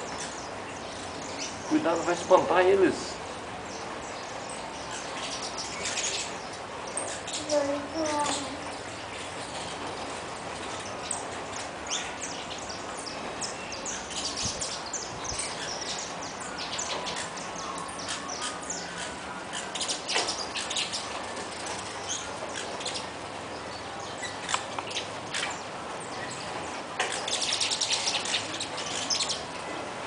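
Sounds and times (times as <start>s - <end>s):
finches chirping: 0.0s - 9.8s, 10.6s - 21.2s, 21.9s - 29.6s.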